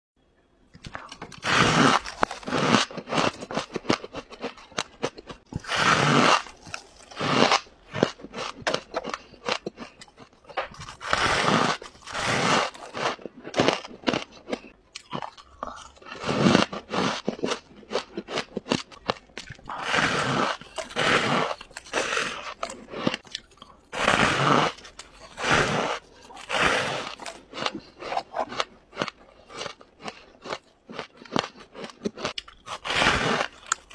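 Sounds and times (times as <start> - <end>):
biting and chewing frost: 0.8 - 33.9.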